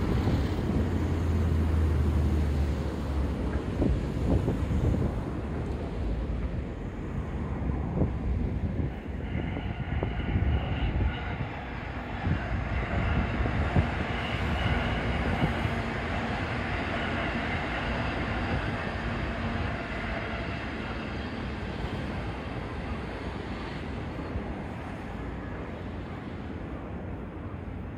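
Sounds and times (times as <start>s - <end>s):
electric train rumbling past: 0.0s - 27.9s.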